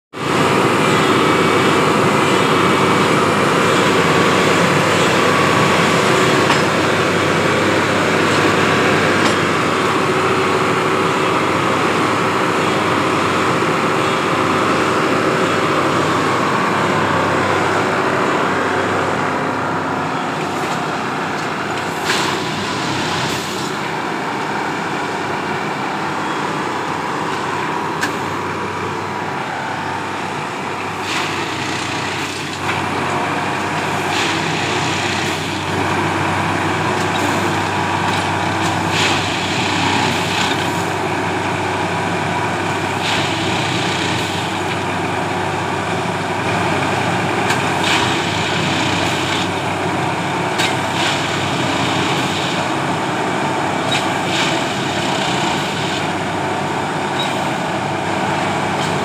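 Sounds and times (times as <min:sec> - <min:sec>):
machine diesel engine din: 0:00.1 - 0:59.0.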